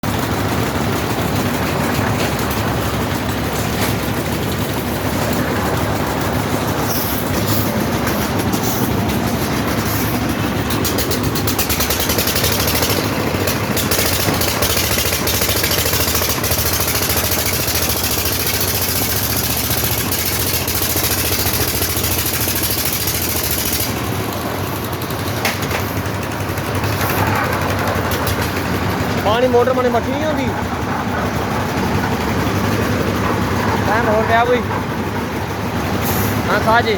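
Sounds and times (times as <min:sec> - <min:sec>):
concrete mixer engine drone: 0:00.0 - 0:36.9
fast rattling clatter: 0:00.0 - 0:36.9.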